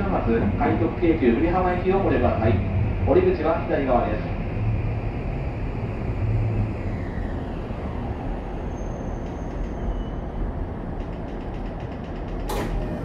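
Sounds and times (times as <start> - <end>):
train inverter whine: 0.0 - 13.0
train running rumble: 0.0 - 13.0.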